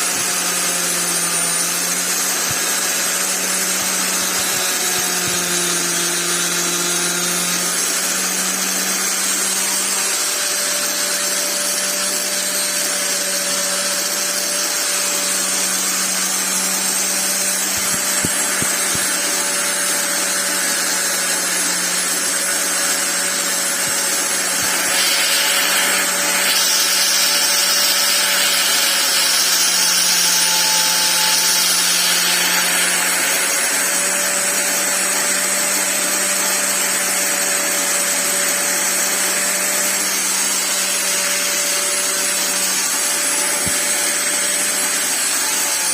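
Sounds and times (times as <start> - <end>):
electric angle grinder running: 0.0 - 45.9.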